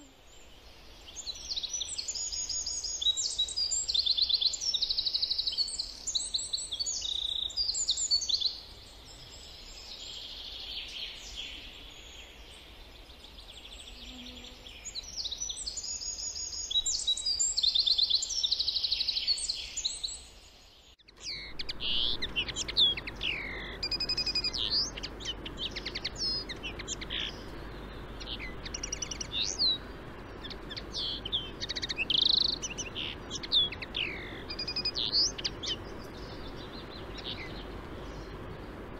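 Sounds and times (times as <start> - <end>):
songbirds chirping: 0.0 - 38.9
steady low hiss: 0.0 - 38.9.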